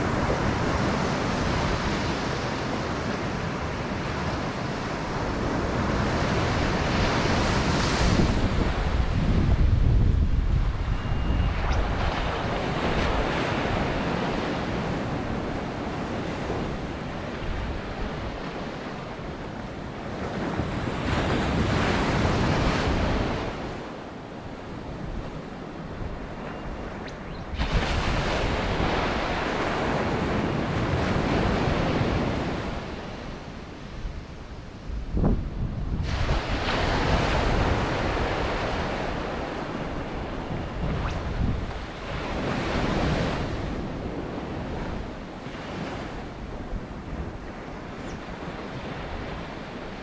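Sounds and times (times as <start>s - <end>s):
waves breaking on beach: 0.0s - 35.2s, 35.8s - 50.0s
wind buffeting microphone: 0.0s - 50.0s.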